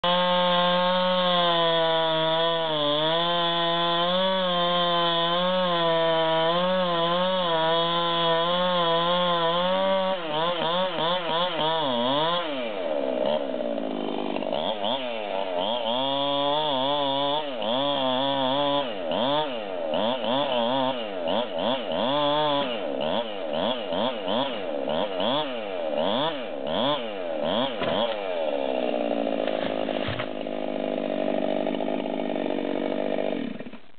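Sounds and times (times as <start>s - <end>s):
chainsaw cutting log: 0.0s - 33.9s.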